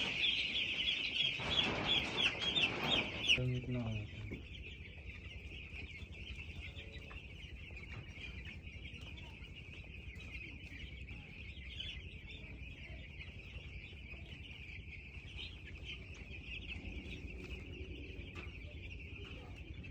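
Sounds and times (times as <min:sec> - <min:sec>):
chickens peeping and clucking: 0:00.0 - 0:19.9.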